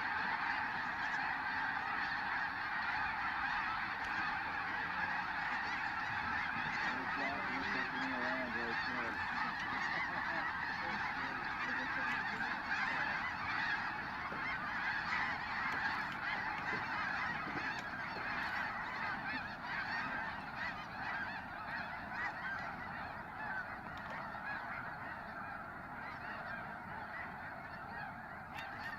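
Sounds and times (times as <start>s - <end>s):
flock of geese honking: 0.0s - 28.9s.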